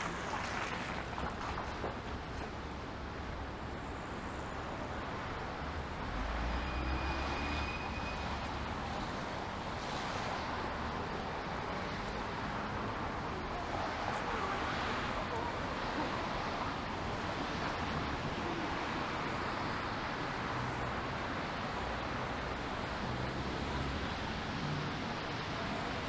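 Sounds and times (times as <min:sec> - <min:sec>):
passing vehicles: 0:00.0 - 0:26.0.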